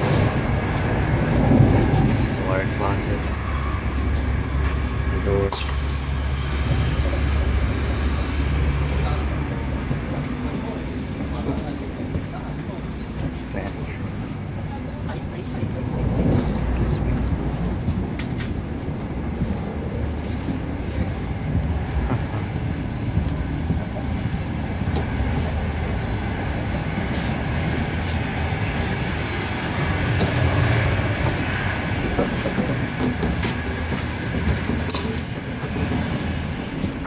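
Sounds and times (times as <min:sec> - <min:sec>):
train running rumble: 0:00.0 - 0:37.0.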